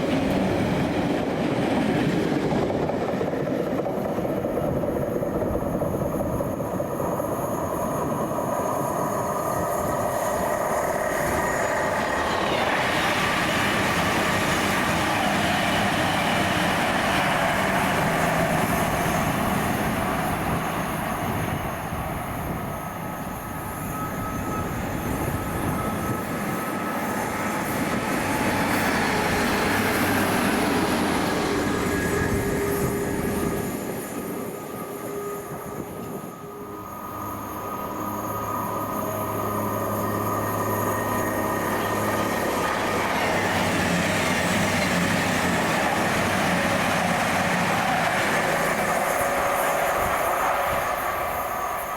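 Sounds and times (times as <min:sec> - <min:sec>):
train wheel and rail noise: 0:00.0 - 0:51.9.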